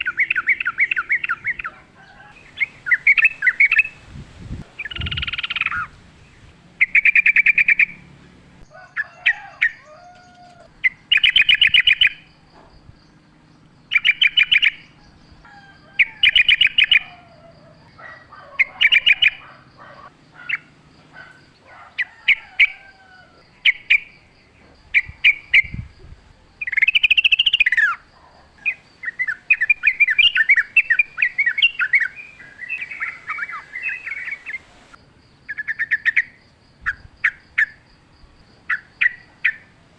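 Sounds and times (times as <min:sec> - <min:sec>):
bird chattering song: 0:00.0 - 0:15.4, 0:16.0 - 0:37.8
low gliding bird calls: 0:00.0 - 0:37.8.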